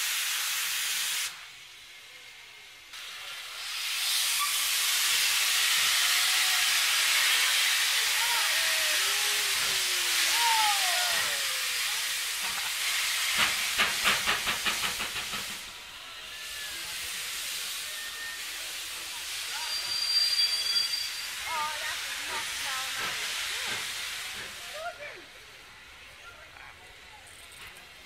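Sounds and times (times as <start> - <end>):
steam hissing: 0.0 - 26.0
steam locomotive chuffing: 0.0 - 26.0.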